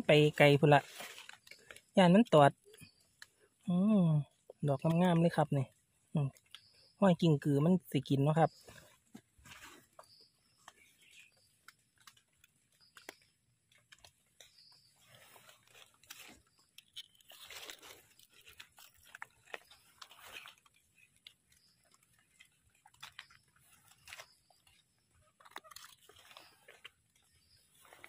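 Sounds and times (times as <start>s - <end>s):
wet leaves crunching: 0.0s - 6.9s, 8.4s - 28.0s.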